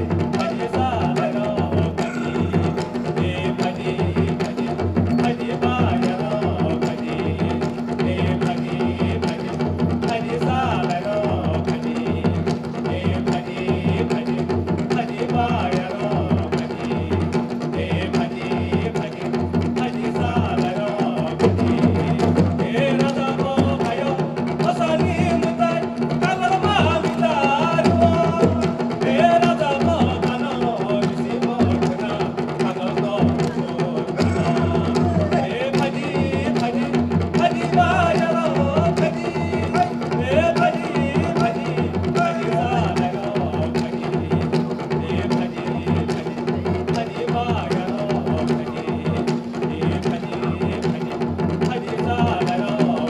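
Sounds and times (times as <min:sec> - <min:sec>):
drum beating: 0:00.0 - 0:53.0.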